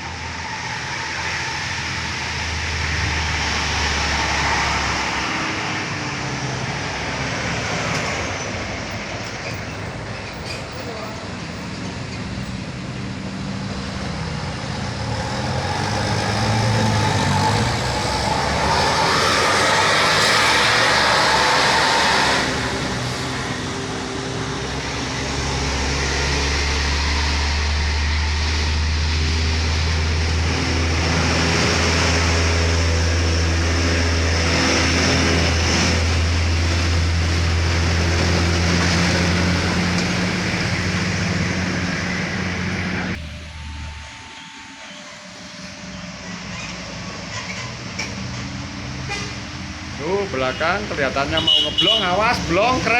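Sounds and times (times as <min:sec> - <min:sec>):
vehicle passing: 0:00.0 - 0:10.1, 0:10.9 - 0:52.9
diesel engine droning: 0:00.0 - 0:52.9.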